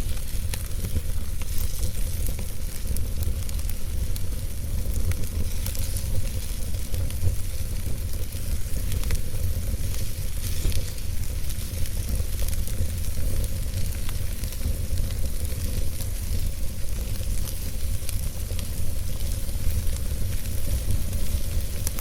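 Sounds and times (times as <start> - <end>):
logs burning in fireplace: 0.0 - 22.0.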